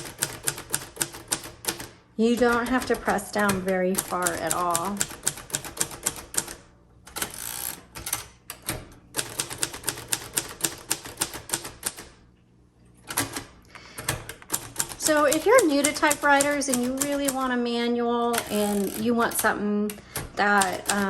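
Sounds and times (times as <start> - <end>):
manual typewriter typing: 0.0 - 12.2, 13.0 - 21.0.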